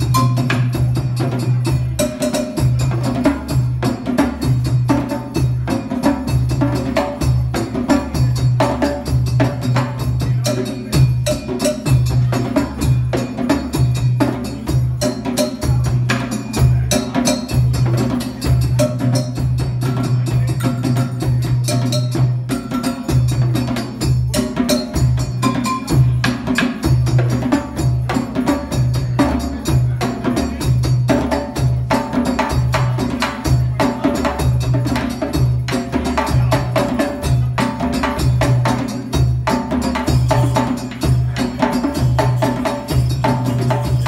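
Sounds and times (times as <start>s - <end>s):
djembe hand drums: 0.0s - 44.0s.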